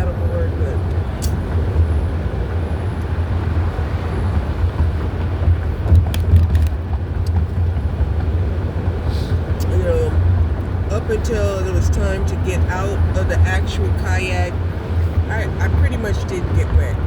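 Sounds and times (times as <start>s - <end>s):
running vehicle rumble: 0.0s - 17.0s.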